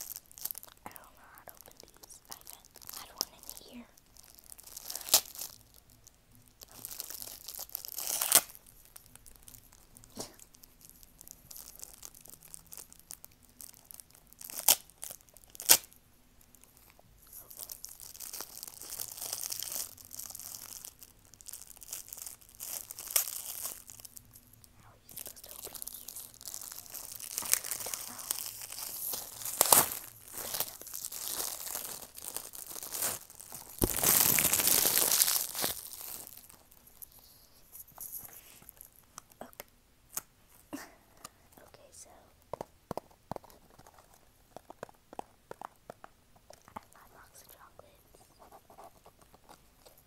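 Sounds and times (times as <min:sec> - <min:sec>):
cellophane crinkling and tearing: 0:00.0 - 0:50.0.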